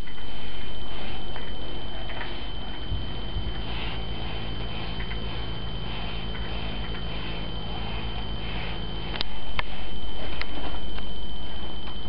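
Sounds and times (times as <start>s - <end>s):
constant high whine: 0.0s - 12.0s
room hum: 0.0s - 12.0s.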